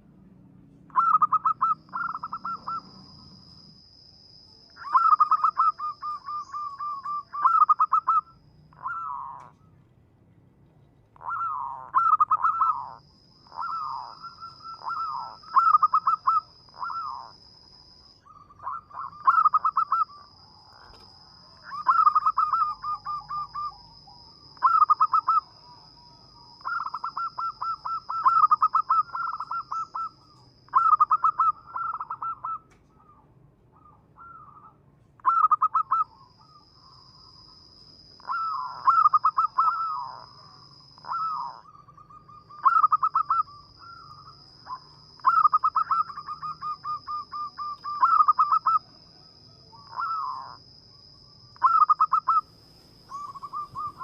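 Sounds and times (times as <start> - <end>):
dove cooing: 0.9 - 3.7, 4.8 - 9.8, 11.2 - 17.5, 18.2 - 37.3, 38.2 - 54.0.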